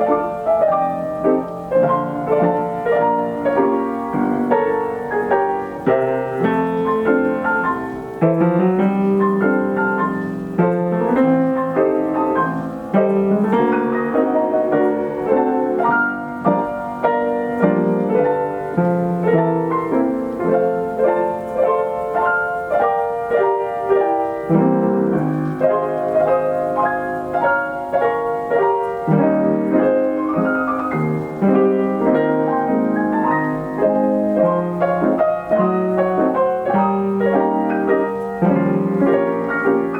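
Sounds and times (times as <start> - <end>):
player piano song arrangement: 0.0 - 39.9.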